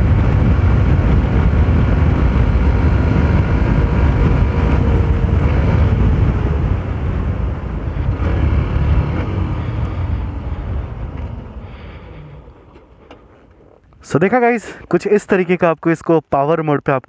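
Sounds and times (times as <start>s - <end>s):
motorcycle engine and exhaust running: 0.0s - 13.8s.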